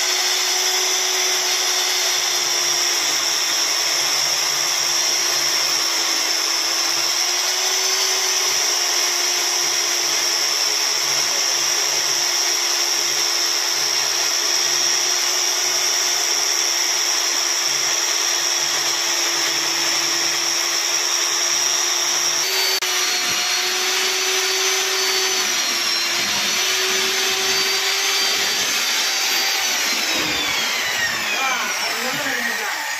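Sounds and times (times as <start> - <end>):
diamond core drill grinding brick: 0.0 - 32.9.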